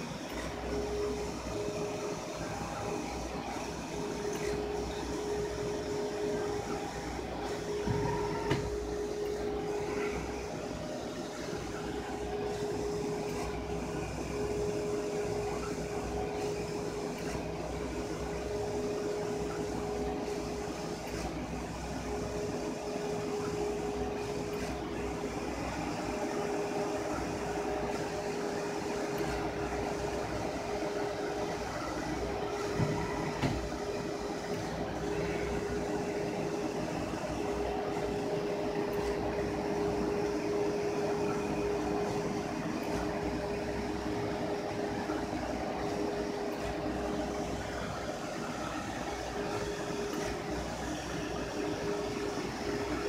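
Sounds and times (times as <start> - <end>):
printer carriage whirring: 0.0 - 53.0
printer humming: 0.0 - 53.0.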